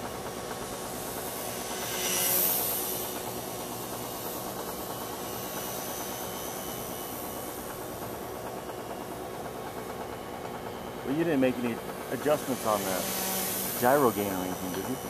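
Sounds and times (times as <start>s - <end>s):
rc helicopter motor whine: 0.0s - 15.0s.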